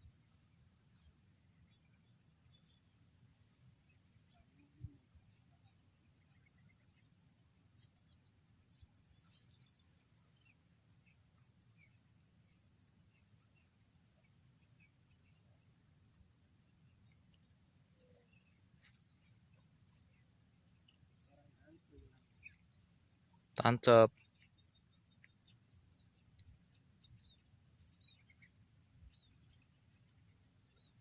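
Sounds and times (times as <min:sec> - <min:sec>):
faint chirps: 0:00.0 - 0:31.0.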